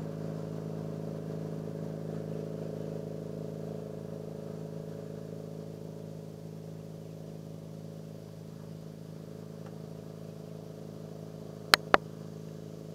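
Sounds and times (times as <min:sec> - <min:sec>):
motorboat engine humming: 0:00.0 - 0:12.9.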